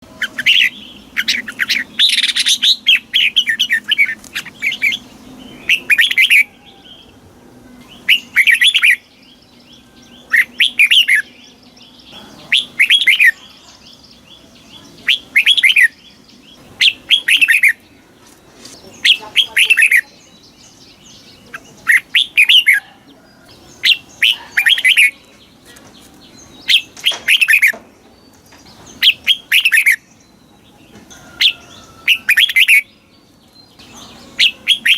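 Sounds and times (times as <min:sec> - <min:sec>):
bulbul singing: 0:00.0 - 0:34.9.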